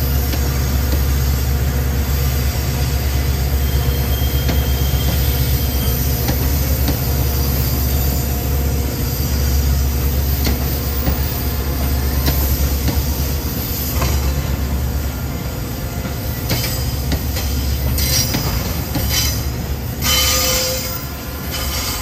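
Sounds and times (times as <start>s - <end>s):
train heavy rumble: 0.0s - 22.0s.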